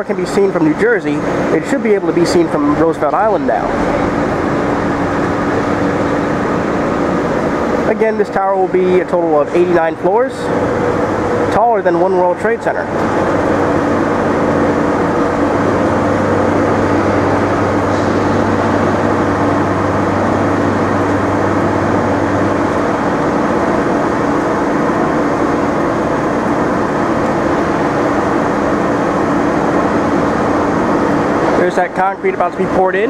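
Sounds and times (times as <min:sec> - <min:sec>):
mechanical hum: 0:00.0 - 0:33.0
city traffic noise: 0:01.2 - 0:08.0, 0:08.6 - 0:33.0.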